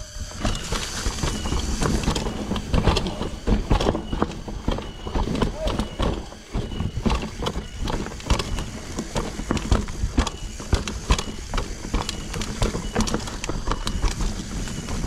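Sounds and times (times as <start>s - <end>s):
mountain bike clattering on dirt trail: 0.3s - 15.0s.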